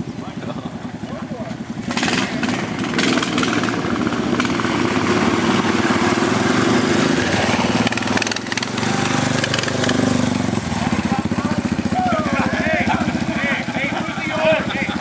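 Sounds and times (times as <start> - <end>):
riding mower engine running rough: 0.0 - 15.0.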